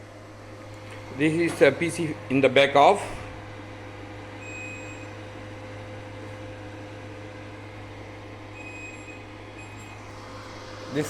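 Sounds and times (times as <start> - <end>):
electrical hum with fan noise: 0.0 - 11.0.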